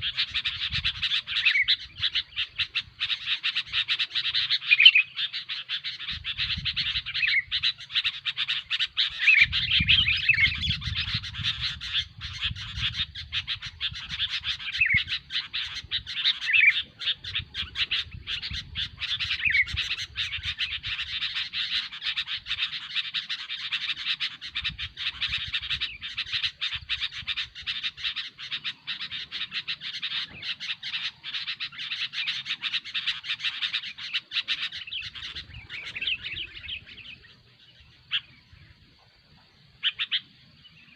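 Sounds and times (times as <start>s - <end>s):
birds chirping rapidly: 0.0s - 40.9s.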